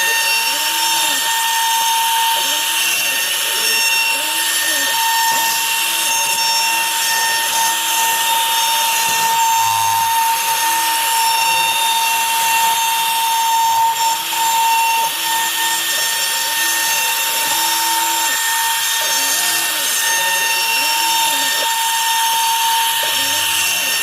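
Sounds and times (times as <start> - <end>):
cnc router spindle whine: 0.0 - 24.0
hiss of wood cutting: 0.0 - 24.0.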